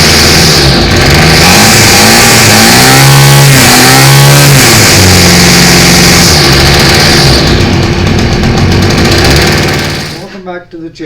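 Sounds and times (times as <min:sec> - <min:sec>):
string trimmer engine revving: 0:00.0 - 0:10.3.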